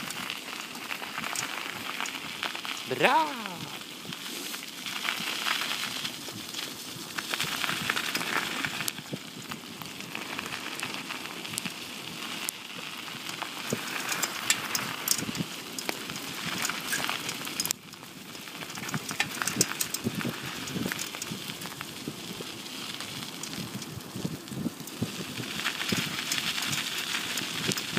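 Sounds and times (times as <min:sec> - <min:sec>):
bicycle tyres rolling on gravel: 0:00.0 - 0:27.9.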